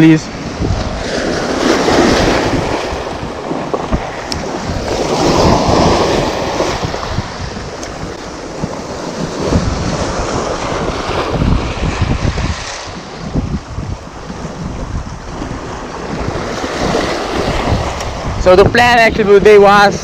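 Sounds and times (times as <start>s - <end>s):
waves splashing over rocks: 0.0s - 19.9s
wind rumbling on microphone: 0.0s - 20.0s.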